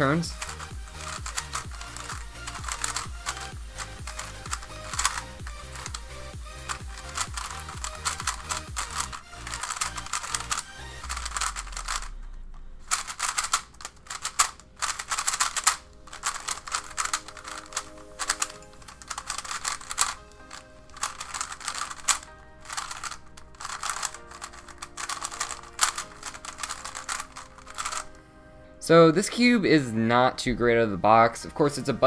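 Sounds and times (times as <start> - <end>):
puzzle cube plastic clacking: 0.0 - 28.2.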